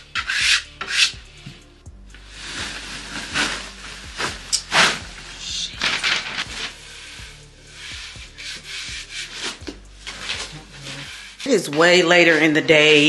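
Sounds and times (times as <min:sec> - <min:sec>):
background music: 0:00.0 - 0:13.0
rubbing strokes: 0:00.0 - 0:13.0.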